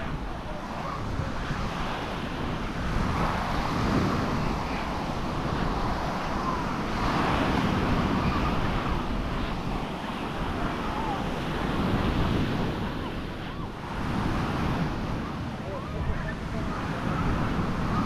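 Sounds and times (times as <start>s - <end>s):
surf washing onto beach: 0.0s - 18.0s
wind buffeting microphone: 0.0s - 18.0s.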